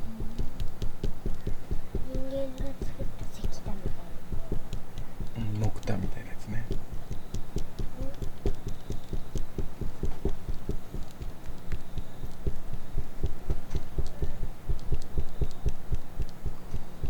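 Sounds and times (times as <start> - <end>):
faint fire crackles: 0.0 - 17.0
rhythmic low puffs of air: 0.0 - 17.0.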